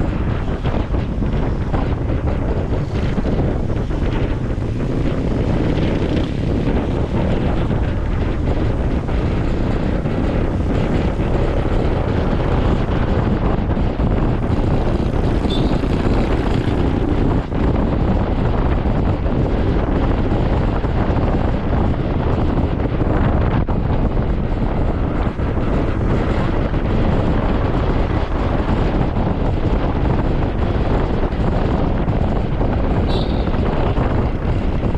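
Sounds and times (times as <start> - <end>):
road noise: 0.0 - 34.9
wind on microphone: 0.0 - 34.9.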